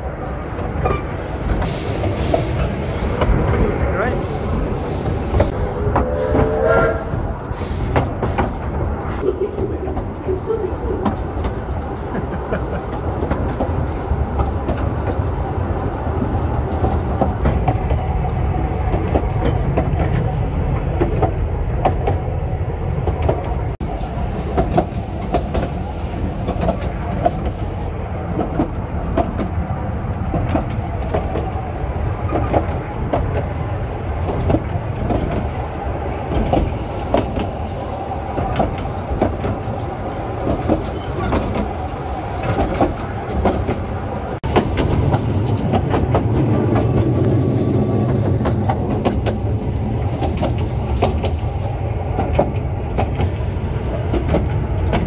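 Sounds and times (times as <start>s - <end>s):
railway carriage rumbling: 0.0s - 55.0s
wheels clicking on rails: 7.4s - 55.0s.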